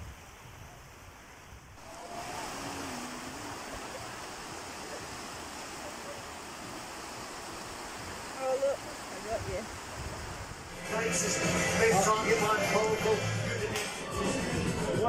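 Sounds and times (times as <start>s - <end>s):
waves breaking on shore: 0.0s - 15.0s.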